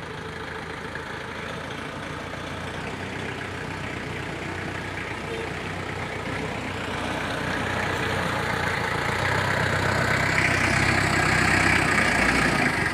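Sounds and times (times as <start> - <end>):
jeep engine running at low speed: 0.0 - 12.9.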